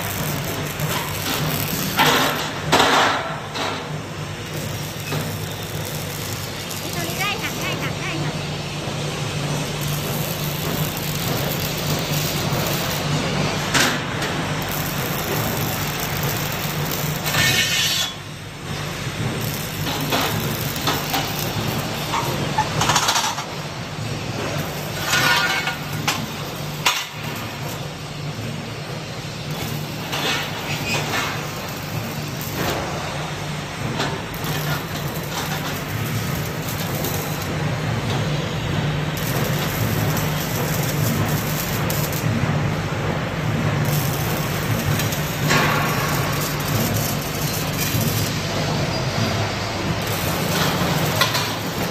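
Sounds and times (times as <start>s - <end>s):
machinery humming: 0.0s - 51.9s.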